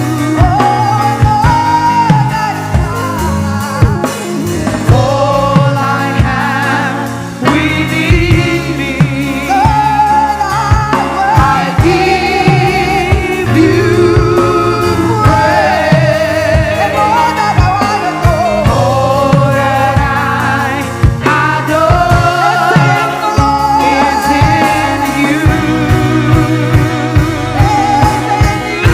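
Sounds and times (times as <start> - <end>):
band with steady beat: 0.0 - 28.9
voices singing: 0.0 - 28.9.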